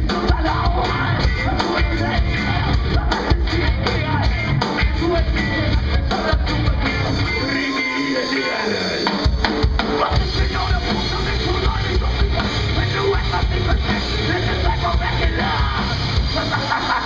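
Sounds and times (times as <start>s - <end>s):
drum kit: 0.0s - 17.0s
electric guitars: 0.0s - 17.0s
loud metal band playing: 0.0s - 17.0s.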